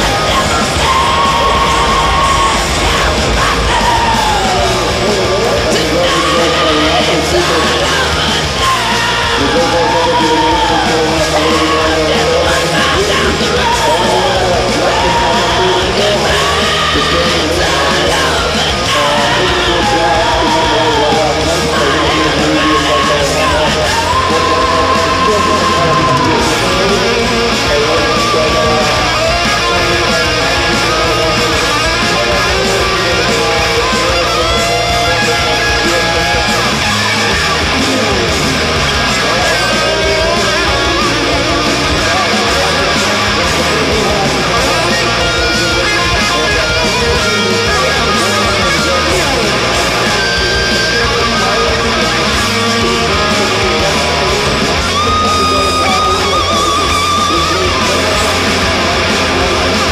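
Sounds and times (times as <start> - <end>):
guitar-driven rock music: 0.0 - 59.9.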